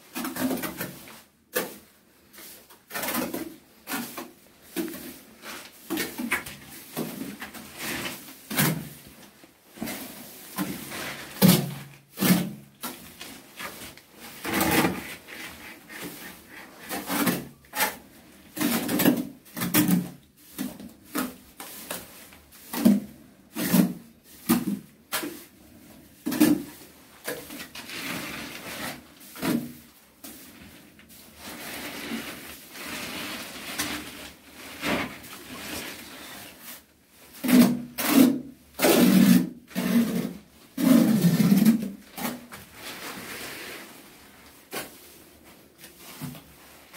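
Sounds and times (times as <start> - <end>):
hand tool scraping cement floor: 0.1 - 46.9.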